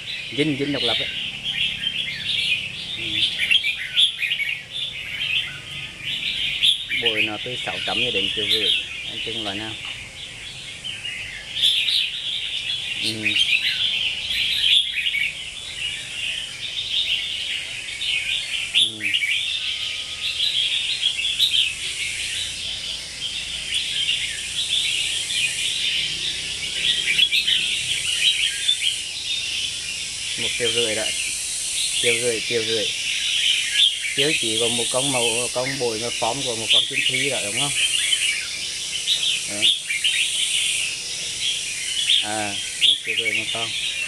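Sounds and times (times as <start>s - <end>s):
bird chirping and chattering: 0.0s - 44.0s.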